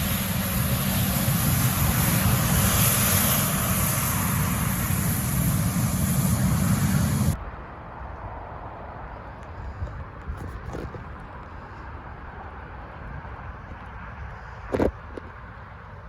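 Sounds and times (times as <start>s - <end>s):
airliner engines whining and rumbling: 0.0s - 16.0s.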